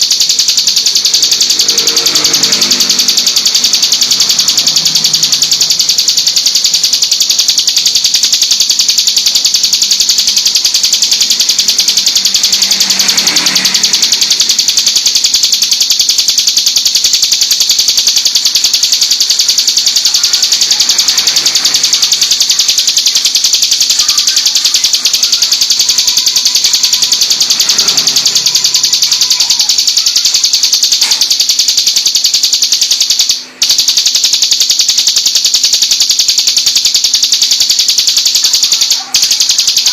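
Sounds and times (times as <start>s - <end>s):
bird high-pitched trill: 0.0s - 39.9s.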